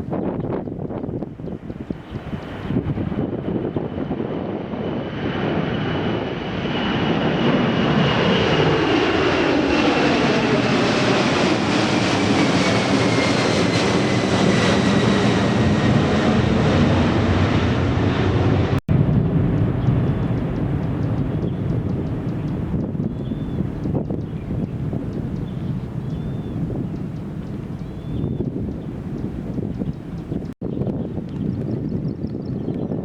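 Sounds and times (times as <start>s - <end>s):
jet engines roaring: 0.0s - 30.6s
high jet engine whine: 0.0s - 33.0s.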